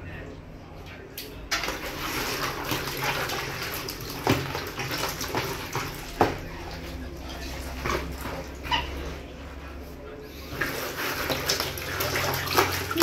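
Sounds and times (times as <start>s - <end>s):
water splashing in plastic tub: 1.4s - 9.4s, 10.5s - 13.0s.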